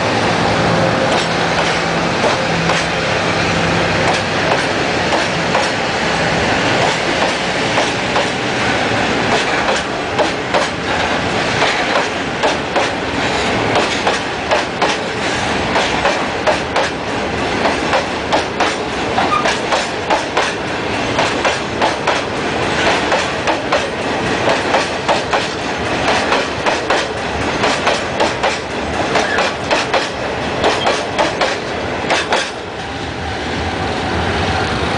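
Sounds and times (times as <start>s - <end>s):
train rumble: 0.0s - 34.9s
train wheels clacking on rail joints: 1.0s - 3.0s, 4.0s - 5.8s, 6.6s - 32.8s.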